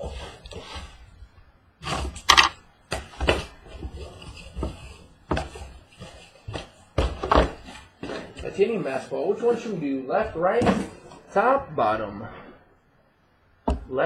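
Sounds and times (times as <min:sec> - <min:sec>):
rustling: 0:00.0 - 0:11.6.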